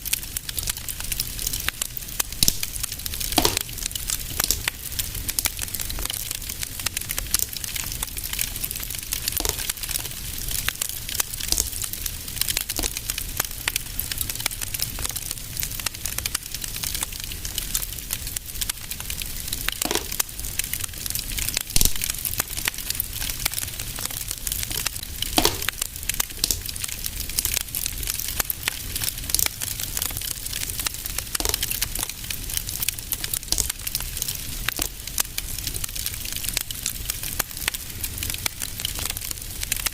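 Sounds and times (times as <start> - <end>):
fire hiss and low rumble: 0.0 - 39.9
fire popping and snapping: 0.0 - 39.9
wood fire crackling: 0.0 - 39.9.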